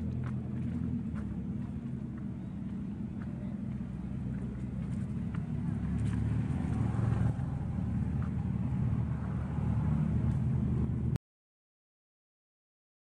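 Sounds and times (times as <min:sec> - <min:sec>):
engine running: 0:00.0 - 0:11.2.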